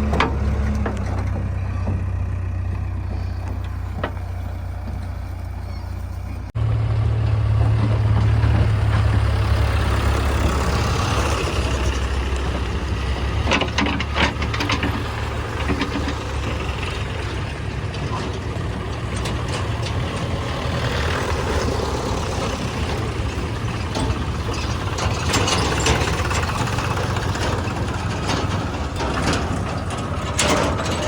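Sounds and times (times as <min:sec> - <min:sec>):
diesel engine humming: 0:00.0 - 0:31.0
metal knocks and clanks: 0:00.0 - 0:31.0.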